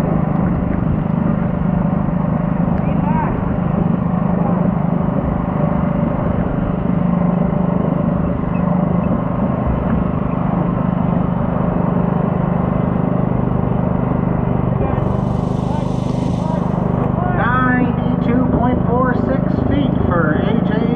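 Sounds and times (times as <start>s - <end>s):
small tractor engine running: 0.0s - 20.9s.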